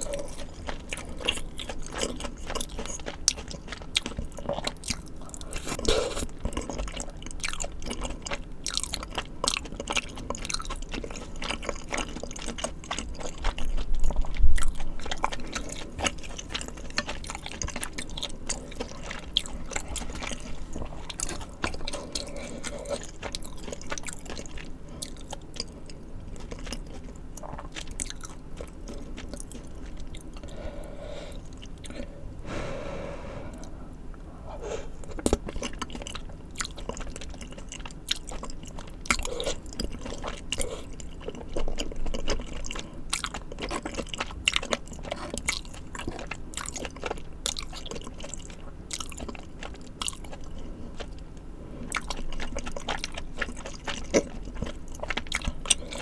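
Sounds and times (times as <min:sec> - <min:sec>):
crunching and wet chewing: 0:00.0 - 0:56.0.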